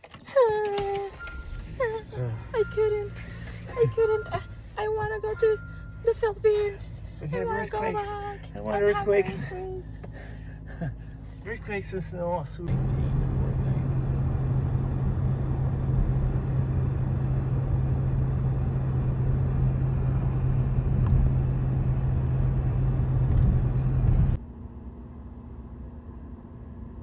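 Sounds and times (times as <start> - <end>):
car engine low hum: 0.0 - 27.0.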